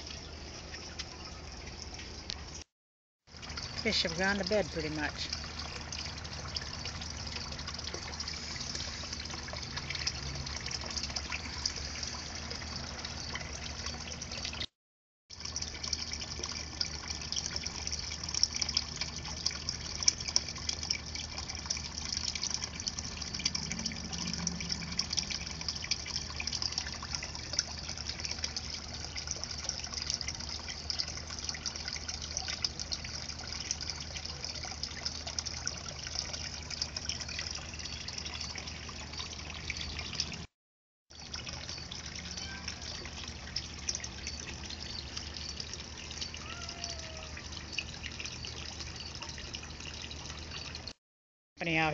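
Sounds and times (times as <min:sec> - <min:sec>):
fountain water pouring into pond: 0:00.0 - 0:02.7, 0:03.3 - 0:14.7, 0:15.3 - 0:40.5, 0:41.1 - 0:51.0, 0:51.6 - 0:51.9.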